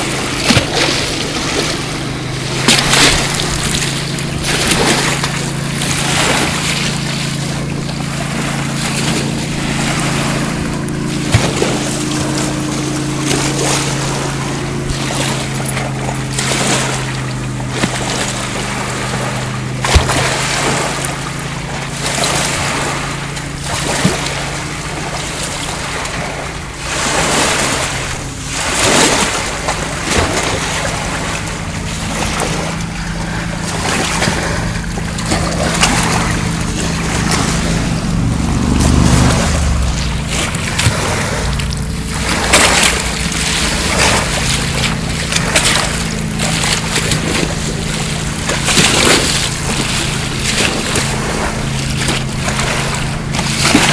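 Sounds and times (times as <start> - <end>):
dog splashing in water: 0.0 - 53.9
low hum: 0.0 - 53.9
waves washing onto sand: 0.0 - 53.9.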